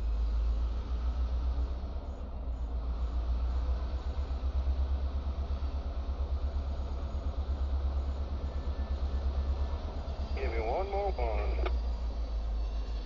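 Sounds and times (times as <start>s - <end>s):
diesel locomotives rumbling: 0.0s - 13.0s.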